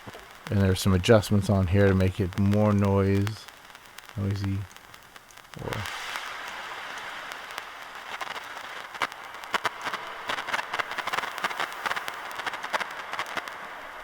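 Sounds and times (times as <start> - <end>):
fire crackling and popping: 0.0 - 14.0
steady hiss: 0.0 - 14.0.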